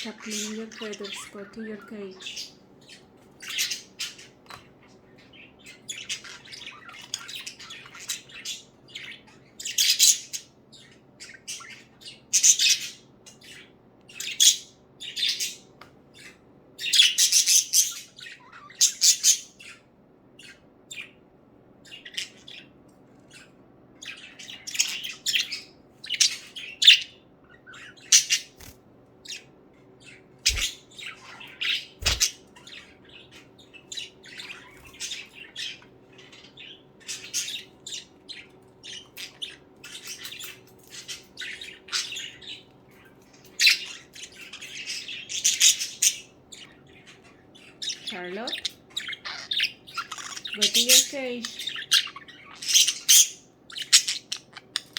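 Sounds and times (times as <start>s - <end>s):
budgerigars chirping: 0.0s - 54.9s.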